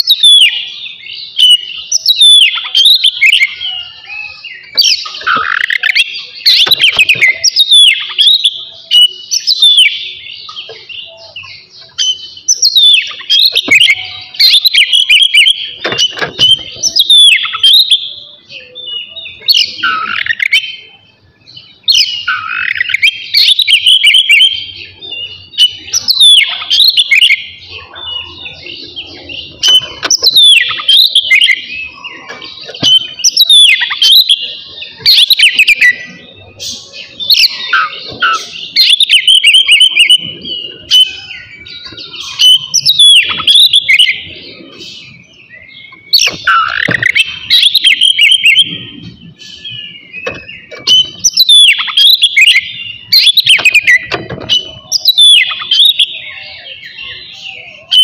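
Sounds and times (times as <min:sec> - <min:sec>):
bird singing whistles and clicks: 0:00.0 - 0:00.7, 0:01.3 - 0:03.6, 0:04.5 - 0:18.2, 0:21.9 - 0:24.7, 0:25.5 - 0:27.4, 0:29.5 - 0:57.0.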